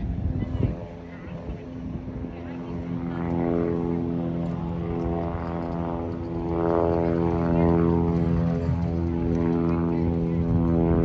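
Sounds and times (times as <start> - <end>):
propeller aircraft droning: 0.0 - 11.0.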